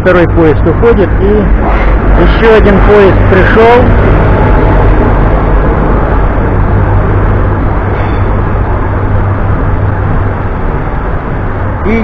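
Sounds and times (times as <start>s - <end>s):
diesel locomotive rumbling past: 0.6s - 11.9s.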